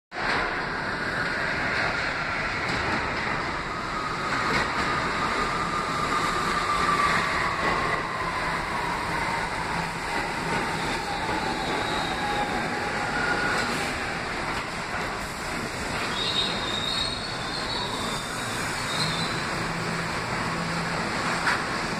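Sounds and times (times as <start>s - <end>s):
train wheels rumbling on rails: 0.1s - 21.9s.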